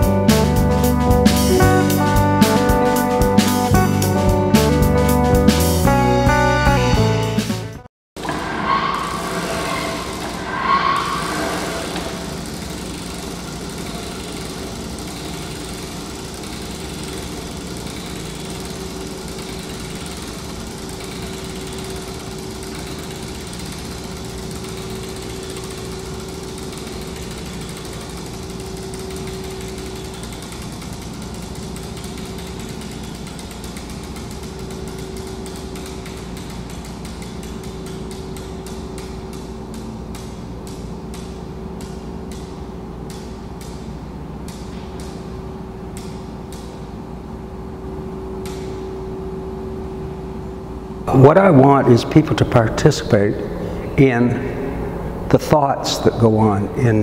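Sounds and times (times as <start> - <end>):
small machine humming: 8.2 - 56.8.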